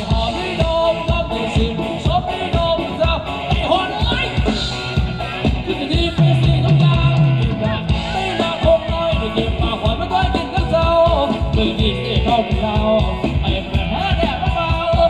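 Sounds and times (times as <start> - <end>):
drum kit beat: 0.0 - 15.0
person singing: 0.0 - 15.0.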